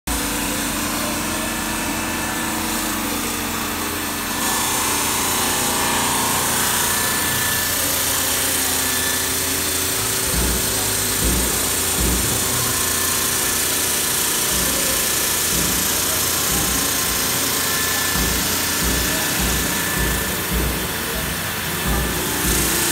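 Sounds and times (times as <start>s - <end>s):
saw blade grinding through slate: 0.1s - 22.9s.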